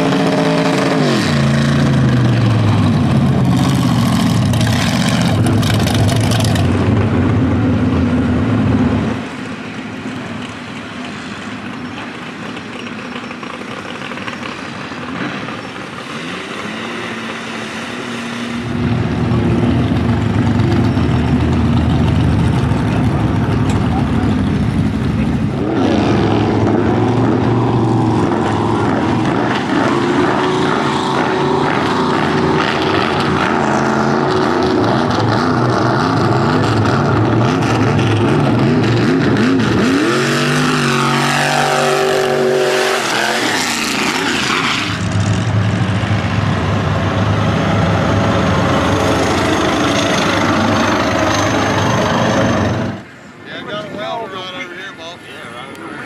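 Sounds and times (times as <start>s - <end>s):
truck engine revving: 0.0s - 9.4s, 13.5s - 53.1s.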